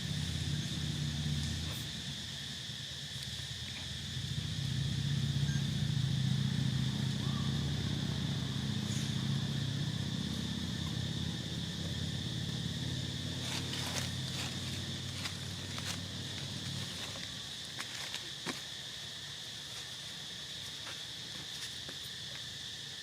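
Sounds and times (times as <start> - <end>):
low engine-like hum: 0.0 - 19.5
high-pitched insect drone: 0.0 - 23.0.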